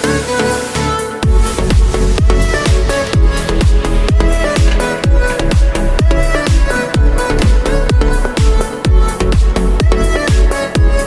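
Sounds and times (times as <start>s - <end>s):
electronic music with kick drum: 1.2s - 10.6s.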